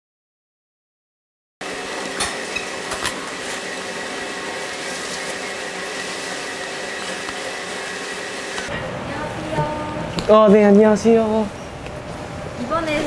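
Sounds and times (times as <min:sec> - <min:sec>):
mechanical hum and hiss: 0:01.6 - 0:13.0.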